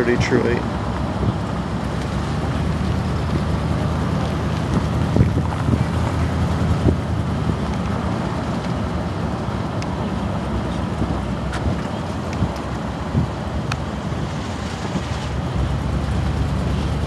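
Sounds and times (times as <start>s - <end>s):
road and engine rumble: 0.0s - 17.0s
wind on microphone: 0.6s - 17.0s.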